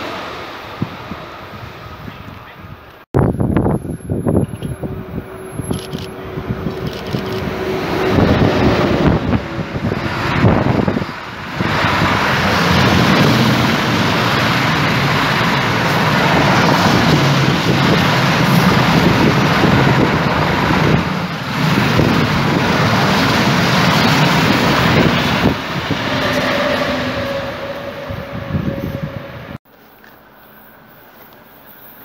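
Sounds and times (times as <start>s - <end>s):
freight train wheels rumbling: 0.0s - 29.6s.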